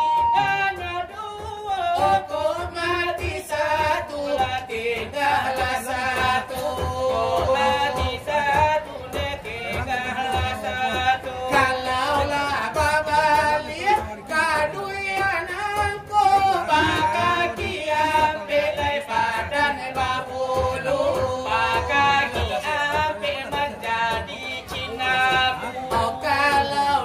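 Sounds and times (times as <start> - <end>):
beats struck on metal tray: 0.0 - 27.0.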